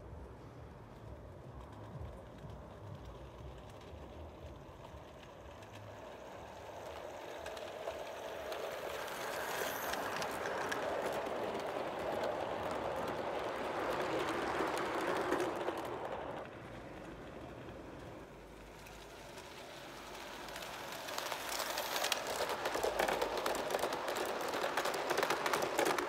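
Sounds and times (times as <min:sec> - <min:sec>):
model train rumbling: 0:00.0 - 0:26.0.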